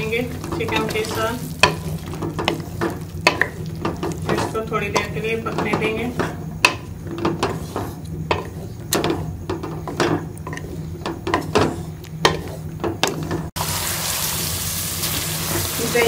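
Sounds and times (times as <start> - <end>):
spoon scraping metal pot: 0.0 - 13.4.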